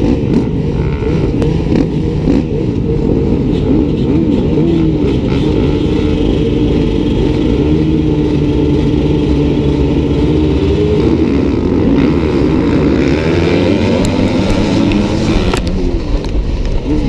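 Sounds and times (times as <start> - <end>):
motocross bikes revving: 0.0 - 17.0
motorbikes accelerating hard: 0.0 - 17.0.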